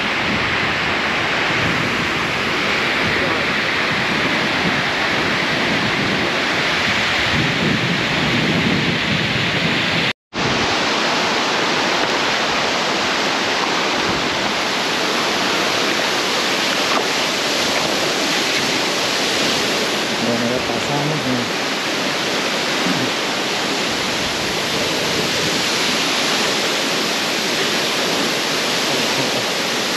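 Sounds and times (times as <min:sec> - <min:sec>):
waterfall and stream rushing: 0:00.0 - 0:29.9.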